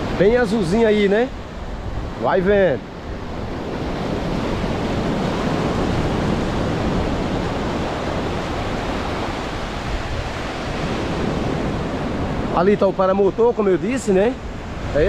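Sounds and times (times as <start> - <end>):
sea surf washing onto beach: 0.0 - 15.0
wind on microphone: 0.0 - 15.0.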